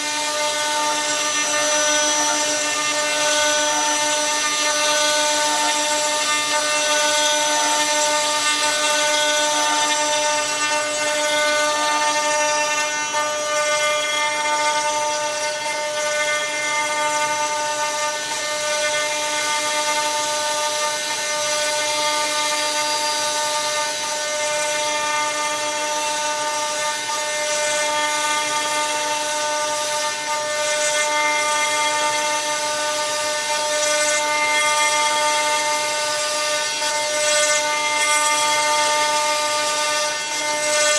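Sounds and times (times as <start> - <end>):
router spindle whine: 0.0 - 40.9
wood cutting hiss: 0.0 - 40.9.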